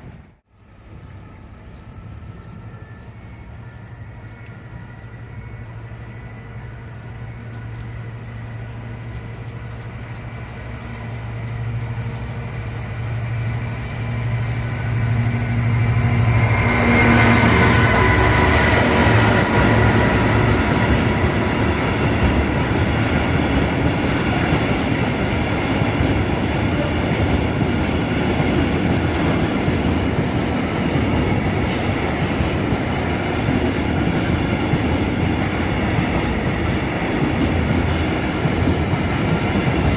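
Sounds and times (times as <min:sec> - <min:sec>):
diesel locomotive engine droning: 0:00.0 - 0:39.9.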